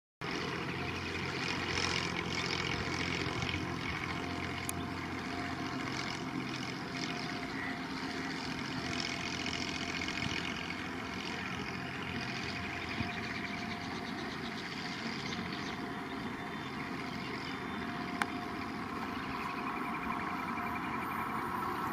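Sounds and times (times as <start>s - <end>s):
low engine hum: 0.2s - 21.9s
train running: 0.2s - 21.9s.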